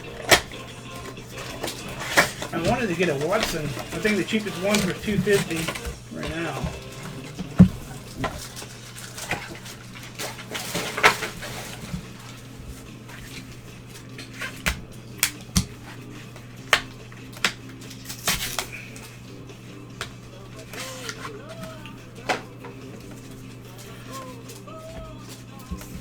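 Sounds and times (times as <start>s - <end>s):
packaging rustle: 0.0s - 16.4s, 20.3s - 26.0s
cards clicking and tapping: 0.0s - 26.0s.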